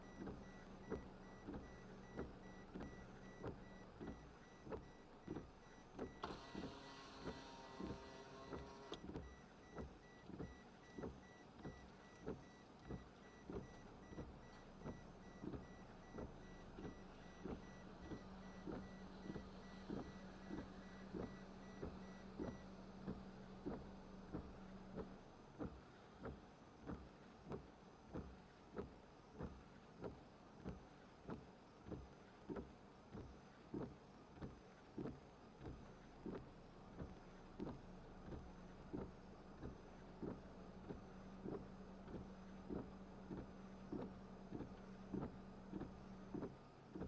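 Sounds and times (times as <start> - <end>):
low car hum: 0.0 - 30.7, 31.3 - 47.0.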